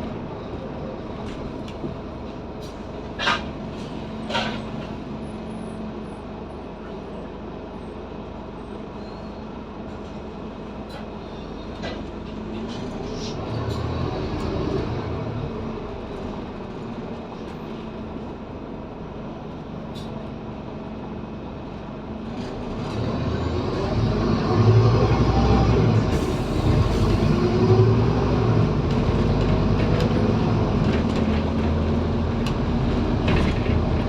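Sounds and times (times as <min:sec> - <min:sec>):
bus diesel engine under load: 0:00.0 - 0:34.0.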